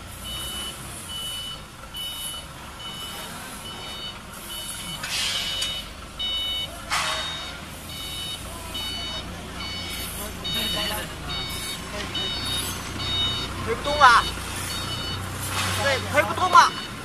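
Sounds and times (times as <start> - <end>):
electronic beeper: 1.2 - 15.2.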